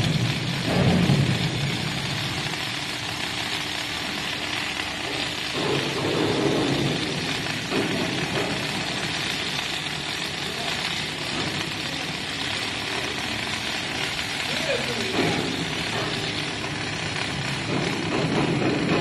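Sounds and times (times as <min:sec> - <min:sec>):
factory machinery running: 0:00.0 - 0:19.0.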